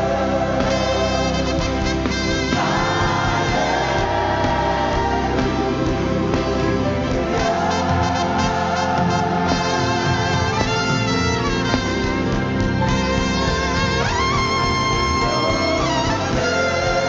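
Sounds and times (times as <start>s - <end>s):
band playing worship music: 0.0s - 17.0s.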